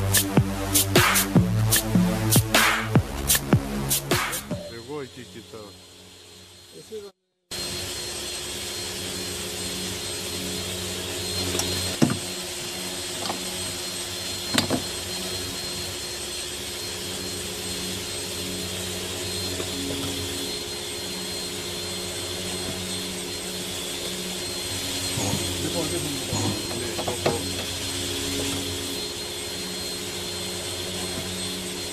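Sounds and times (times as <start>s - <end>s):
machine hum: 0.0s - 31.9s.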